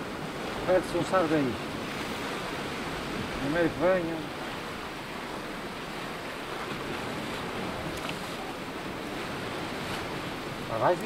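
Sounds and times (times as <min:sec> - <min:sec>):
surf washing against rocks: 0:00.0 - 0:11.0.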